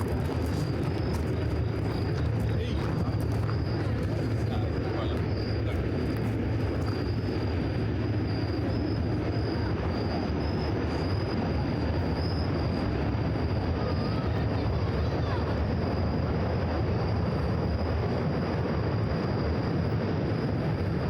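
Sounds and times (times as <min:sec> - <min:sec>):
faint wavering high whine: 0:00.0 - 0:21.0
subway train rumbling: 0:00.0 - 0:21.0.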